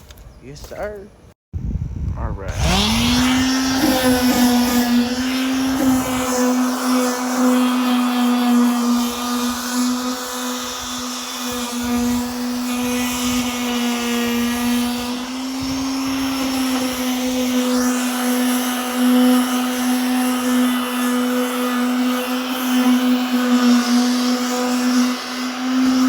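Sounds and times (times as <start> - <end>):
electric power sander: 2.5 - 26.0.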